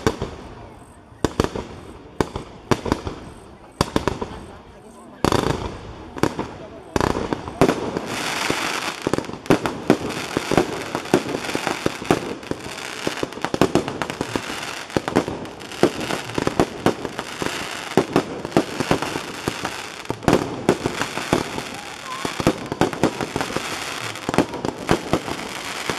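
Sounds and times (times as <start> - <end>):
fireworks popping and banging: 0.0 - 0.6, 1.2 - 4.6, 5.2 - 25.9
hiss and crackle of rising fireworks: 0.0 - 25.9.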